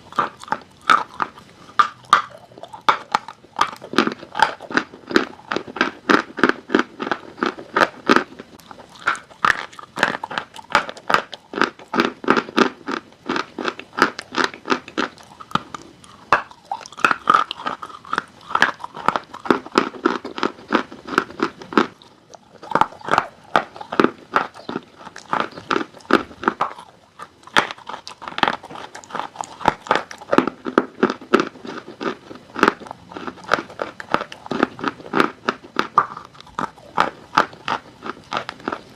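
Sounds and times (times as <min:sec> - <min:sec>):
chewing dry chalk crunches: 0:00.0 - 0:38.9.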